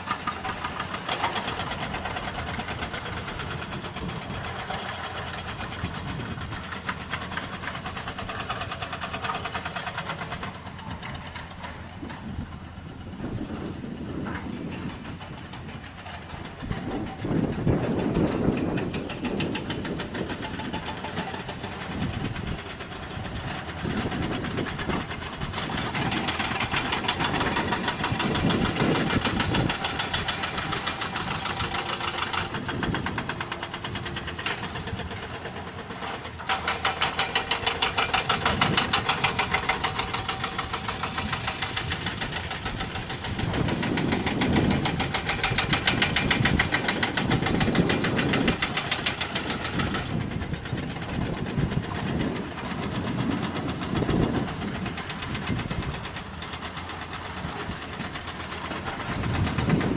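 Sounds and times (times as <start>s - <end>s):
diesel truck engine clattering: 0.0s - 59.9s.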